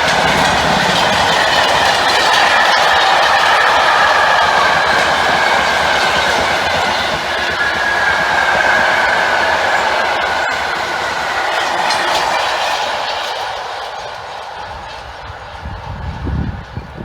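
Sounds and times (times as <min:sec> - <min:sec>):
high-pitched train whine: 0:00.0 - 0:17.0
train wheels clattering on rails: 0:00.0 - 0:17.0.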